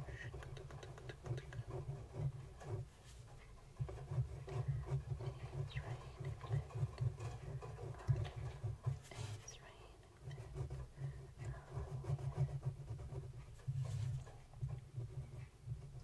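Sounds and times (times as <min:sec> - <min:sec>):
pen scratching on paper: 0:00.0 - 0:16.0.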